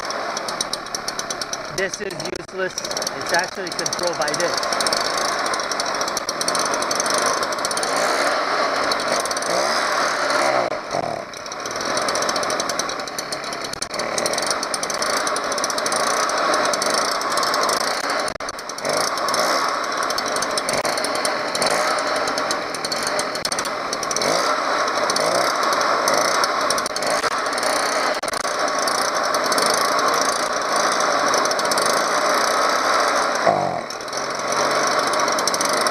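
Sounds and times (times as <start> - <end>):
leaf blower engine running: 0.0 - 35.9.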